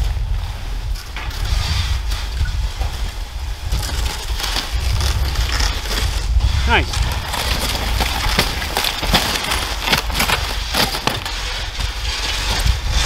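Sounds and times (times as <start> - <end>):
snowshoes crunching through snow: 1.5 - 13.0.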